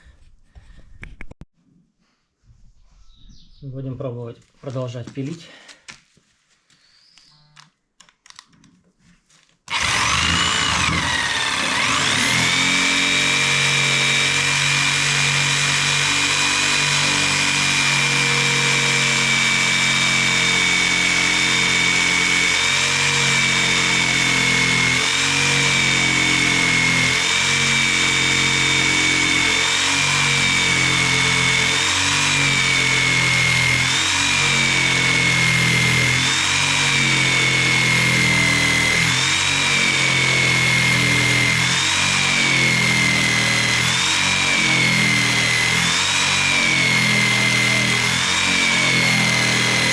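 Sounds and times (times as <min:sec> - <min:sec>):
jigsaw cutting wood: 0:09.7 - 0:49.9.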